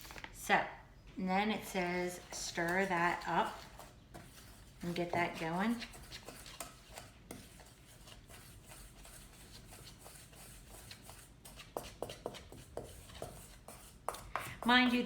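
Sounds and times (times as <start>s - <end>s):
spoon scraping dough in bowl: 1.6s - 15.0s.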